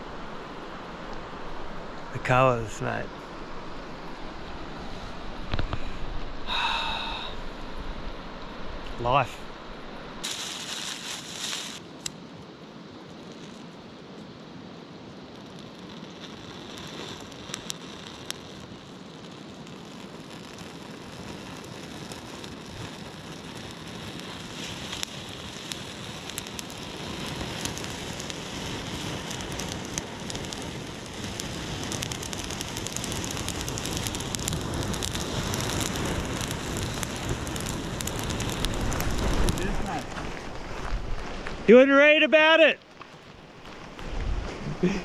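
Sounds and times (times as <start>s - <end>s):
campfire crackling and popping: 0.0s - 45.0s
rushing noise of flames: 0.0s - 45.0s.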